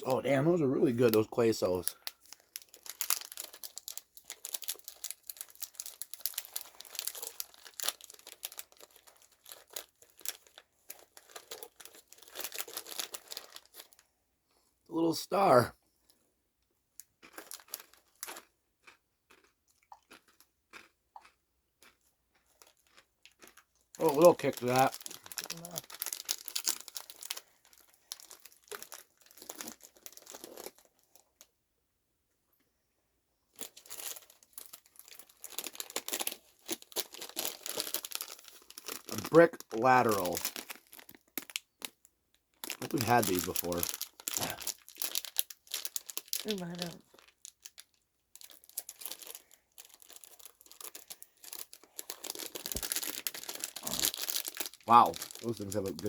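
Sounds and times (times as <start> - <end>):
plastic wrappers crinkling and tearing: 0.0 - 14.0, 17.0 - 18.5, 22.4 - 31.5, 33.6 - 56.0.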